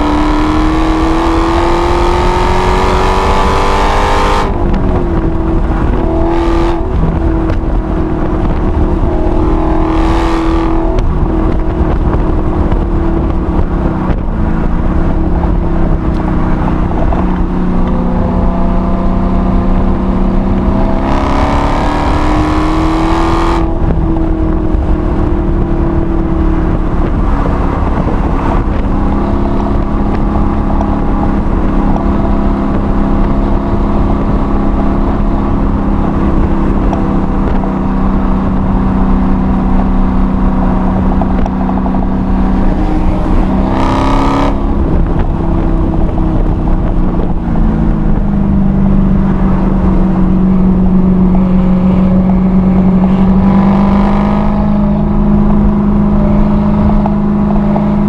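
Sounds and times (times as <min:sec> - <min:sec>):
car engine revving under throttle: 0:00.0 - 0:58.0.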